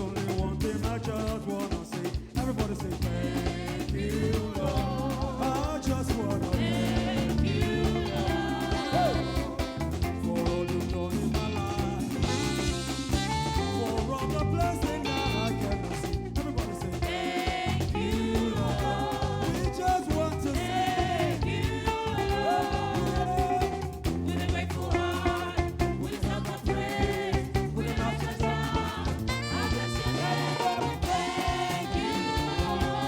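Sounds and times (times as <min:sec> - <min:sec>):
bass line: 0:00.0 - 0:33.0
drum kit steady beat: 0:00.0 - 0:33.0
live band playing gospel song: 0:00.0 - 0:33.0
person singing: 0:00.0 - 0:33.0.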